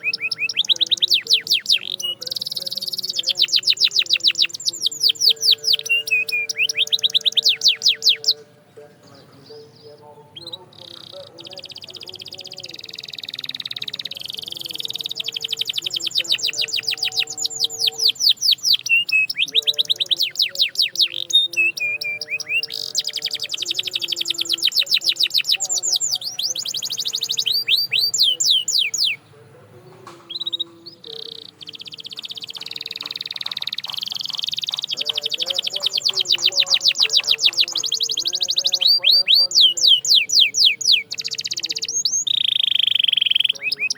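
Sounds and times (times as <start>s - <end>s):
canary trilling: 0.0s - 43.9s.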